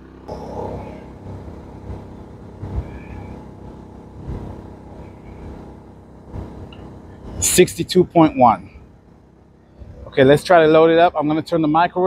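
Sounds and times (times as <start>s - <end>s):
low bumps: 0.0s - 11.2s
distant generator running: 0.0s - 12.0s.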